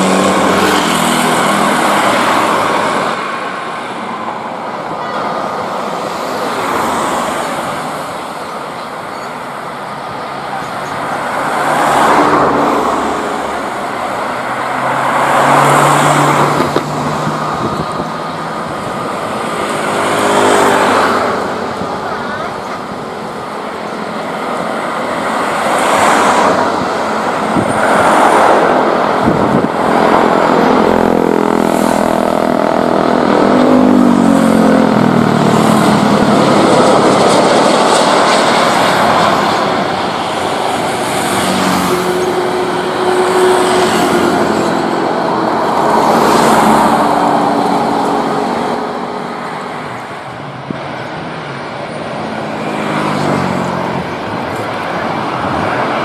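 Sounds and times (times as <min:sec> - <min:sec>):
jet engines roaring overhead: 0:00.0 - 0:56.0.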